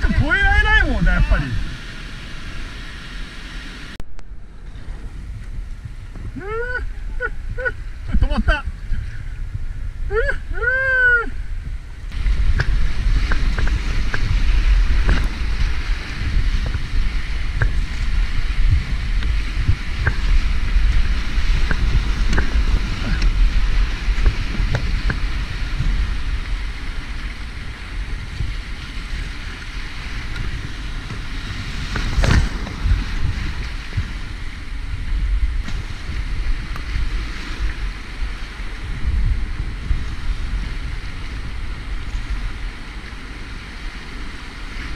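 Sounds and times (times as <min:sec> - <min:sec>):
whitewater rushing: 0:00.0 - 0:04.0, 0:06.2 - 0:08.9, 0:10.0 - 0:44.9
wind buffeting microphone: 0:00.0 - 0:44.9.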